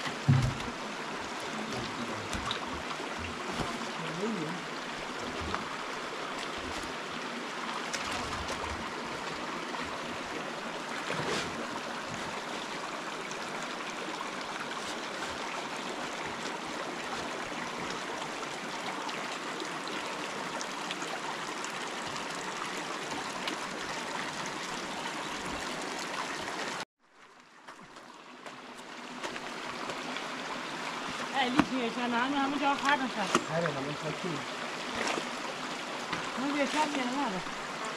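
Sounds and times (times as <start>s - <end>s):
river water rushing: 0.0s - 26.8s, 28.2s - 37.9s.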